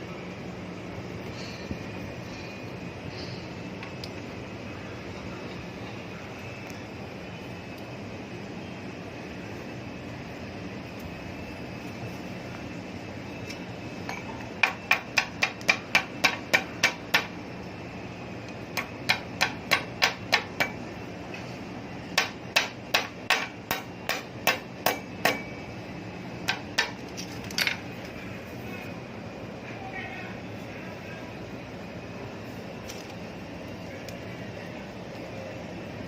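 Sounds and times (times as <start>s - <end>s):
steady background hum: 0.0s - 36.0s.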